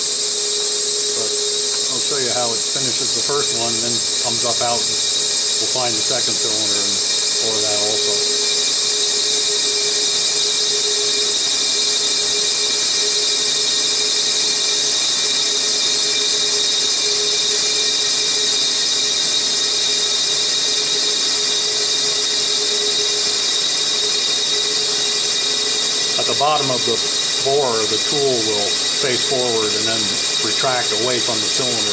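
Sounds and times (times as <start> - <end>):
mill spindle whine: 0.0 - 31.9.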